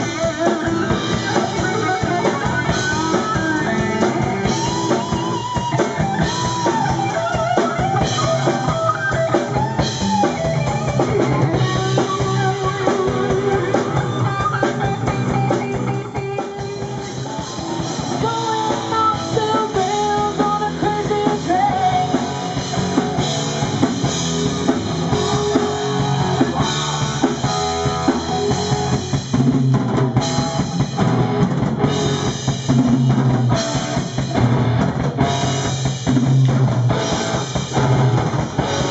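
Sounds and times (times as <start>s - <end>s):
electric guitar bending lead notes: 0.0s - 38.9s
live rock band playing: 0.0s - 38.9s.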